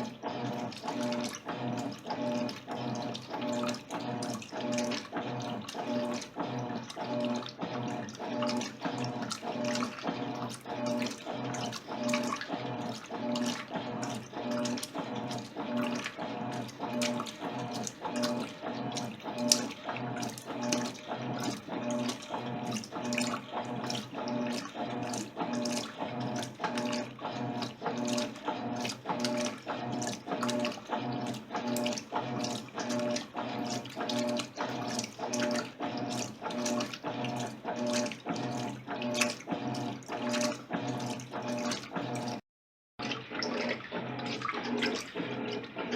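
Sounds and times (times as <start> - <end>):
washing machine motor hum: 0.0 - 42.4, 43.0 - 45.9
water sloshing: 0.0 - 42.4, 43.0 - 45.9.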